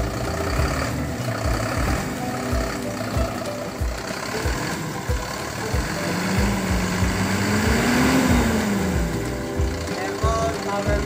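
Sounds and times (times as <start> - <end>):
regular low thump: 0.0 - 11.0
truck diesel engine revving: 0.0 - 11.0.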